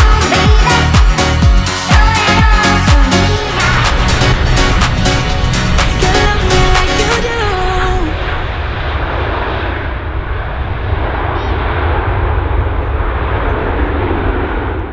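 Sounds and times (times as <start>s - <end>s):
jet engines rumbling: 1.7s - 14.9s.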